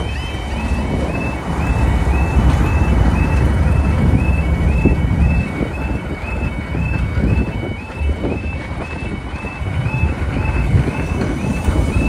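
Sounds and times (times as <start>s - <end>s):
crossing alarm yelping tone: 0.0s - 12.0s
diesel locomotive rumble: 0.0s - 12.0s.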